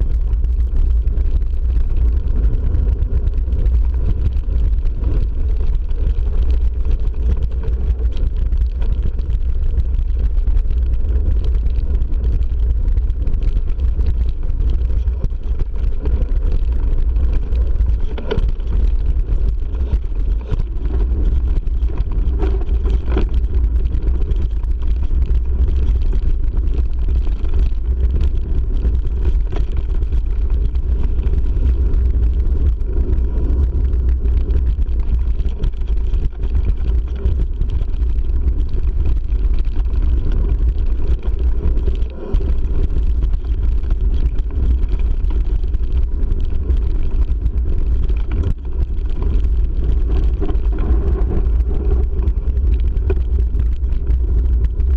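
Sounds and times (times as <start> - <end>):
tyres rumbling on gravel: 0.0 - 54.9
wind on microphone: 0.0 - 54.9.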